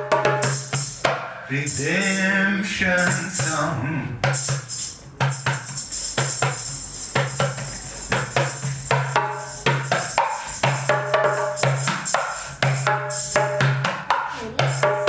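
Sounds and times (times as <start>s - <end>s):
hand percussion beat: 0.0s - 15.0s.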